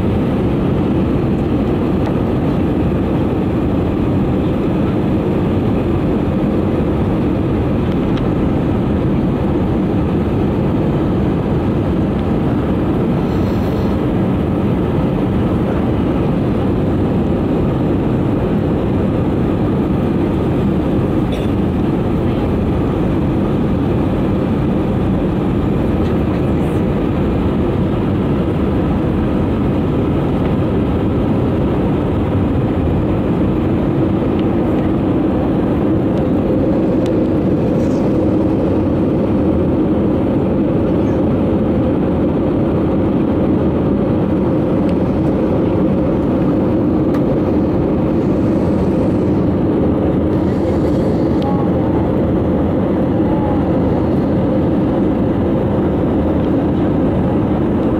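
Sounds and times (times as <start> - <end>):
jet engine cabin drone: 0.0 - 57.9.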